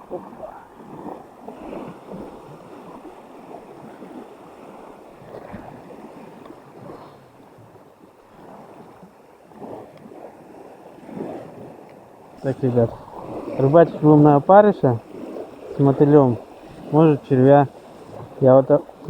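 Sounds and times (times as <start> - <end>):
wind gusting against microphone: 0.0 - 11.8, 12.4 - 19.0
small waves lapping at shore: 0.0 - 19.0.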